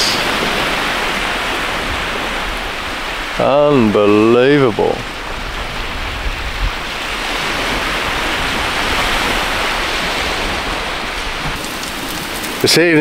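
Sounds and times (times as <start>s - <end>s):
waves washing on a beach: 0.0s - 13.0s.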